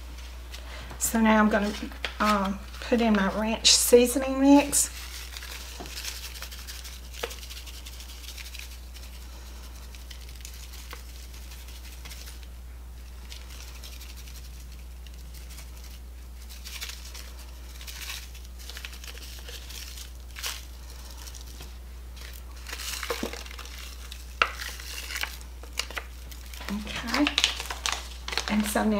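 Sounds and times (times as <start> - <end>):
steady low hum: 0.0 - 28.9
paper packet crinkling: 1.4 - 28.9.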